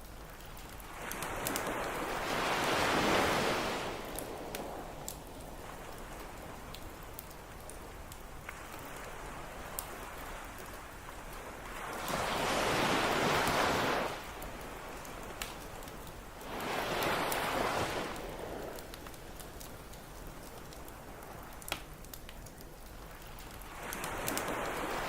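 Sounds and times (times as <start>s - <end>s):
campfire crackling and popping: 0.0s - 25.0s
ocean surf washing onto beach: 0.0s - 25.0s.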